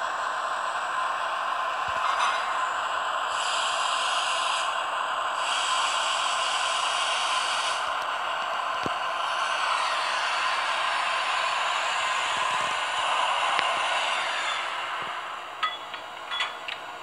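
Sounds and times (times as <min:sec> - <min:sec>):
hissing machinery sound from speaker: 0:01.8 - 0:16.1.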